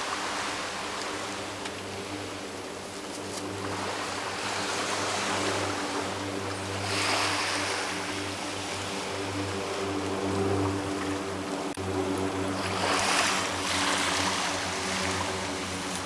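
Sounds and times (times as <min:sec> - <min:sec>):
low engine-like hum: 0:00.0 - 0:16.0
small waves washing: 0:00.0 - 0:16.0
wind: 0:00.0 - 0:16.0.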